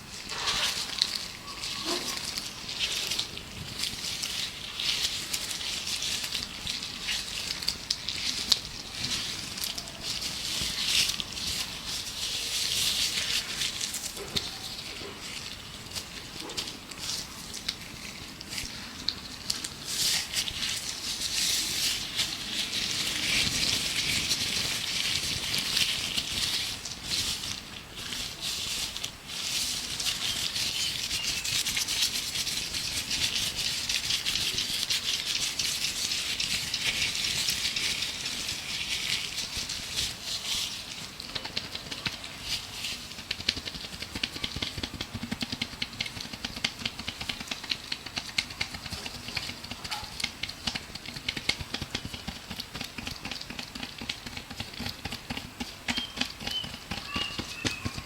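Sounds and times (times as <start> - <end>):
gloved hands rubbing and crinkling: 0.0 - 58.0.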